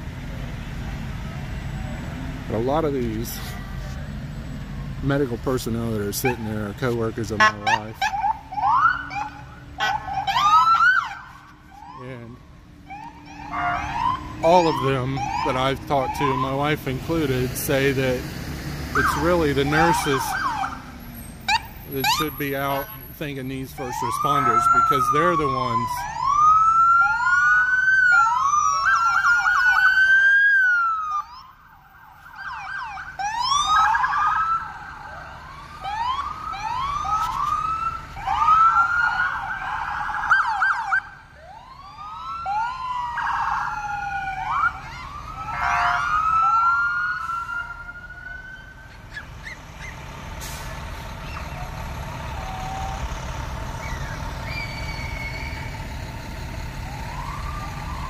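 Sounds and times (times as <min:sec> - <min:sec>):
low rumble of vehicles: 0:00.0 - 0:58.0
sirens wailing: 0:00.0 - 0:58.0.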